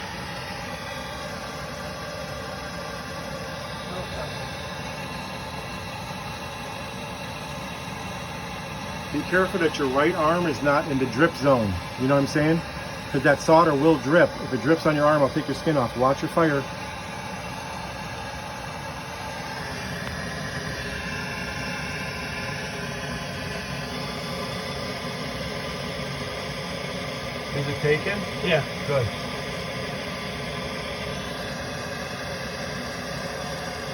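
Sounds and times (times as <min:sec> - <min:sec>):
steady machinery drone: 0:00.0 - 0:33.9
torch flame hissing: 0:00.1 - 0:33.9.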